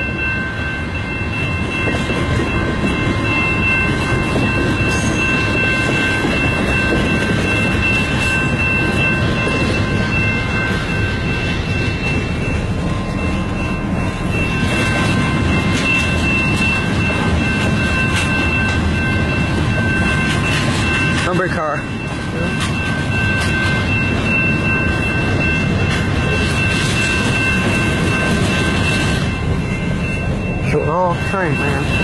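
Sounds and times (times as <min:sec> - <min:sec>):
crossing warning bell ringing: 0:00.0 - 0:32.0
freight train rumbling on rails: 0:00.0 - 0:32.0.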